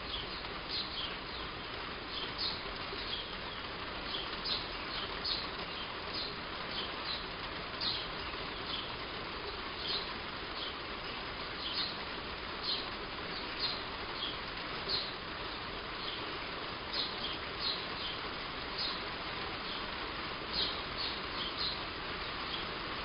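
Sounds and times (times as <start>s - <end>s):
bird chirping: 0.0s - 22.8s
heavy rain on a roof: 0.0s - 23.0s.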